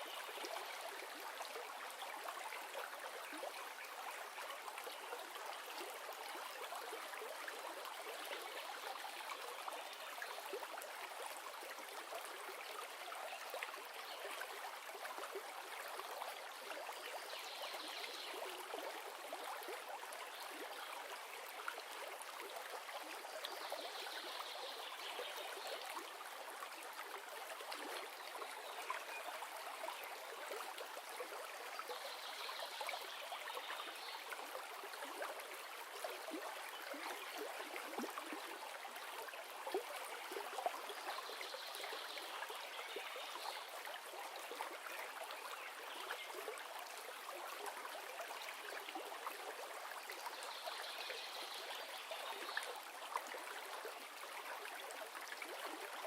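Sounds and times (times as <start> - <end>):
stream water running over rocks: 0.0 - 56.0.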